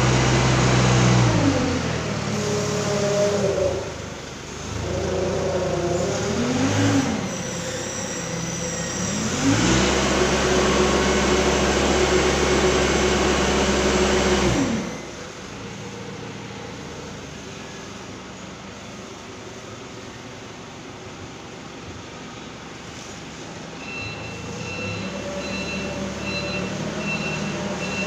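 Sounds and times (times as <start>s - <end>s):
forklift engine running: 0.0s - 28.0s.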